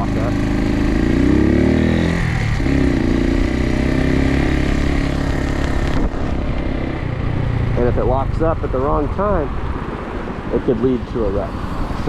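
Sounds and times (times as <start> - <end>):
motorcycle engine pulling away: 0.0 - 10.5.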